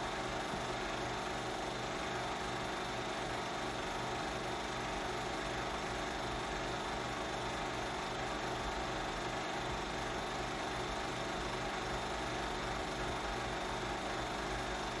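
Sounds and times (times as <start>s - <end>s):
film projector motor hum: 0.0s - 15.0s.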